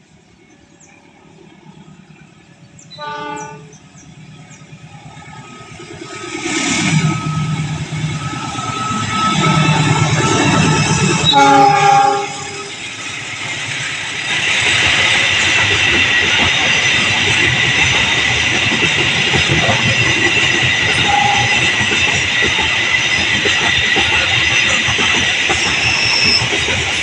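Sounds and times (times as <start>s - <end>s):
train wheels rushing on rails: 0.0s - 27.0s.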